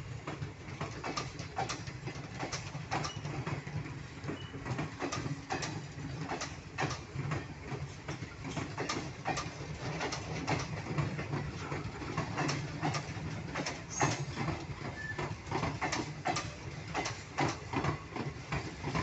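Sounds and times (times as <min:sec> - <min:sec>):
train coaches rumbling past: 0:00.0 - 0:19.0
wheel clacks over rail joints: 0:00.2 - 0:19.0.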